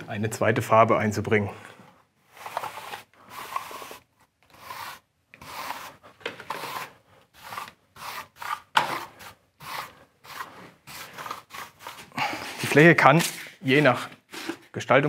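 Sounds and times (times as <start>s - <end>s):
trowel scraping wet mortar: 2.4s - 14.7s.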